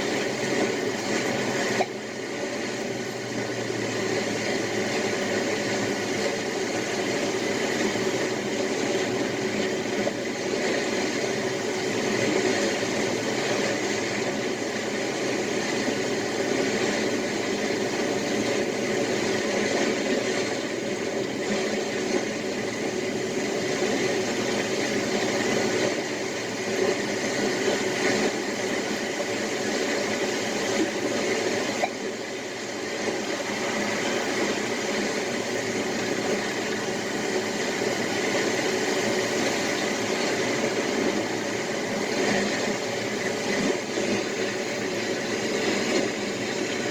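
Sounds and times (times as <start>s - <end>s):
ocean waves washing: 0.0s - 46.9s.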